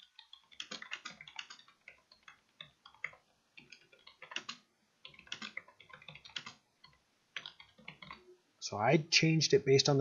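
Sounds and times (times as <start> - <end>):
keyboard typing clicks: 0.0 - 8.2.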